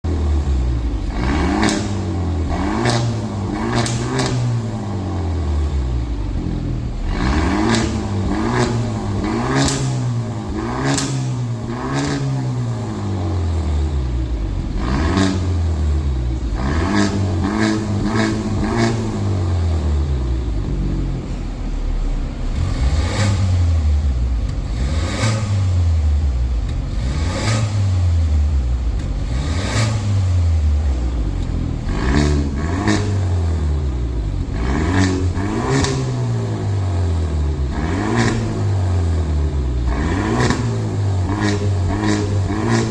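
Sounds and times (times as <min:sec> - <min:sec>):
car engine revving in blips: 0:00.0 - 0:42.9
exhaust cracks: 0:00.0 - 0:42.9.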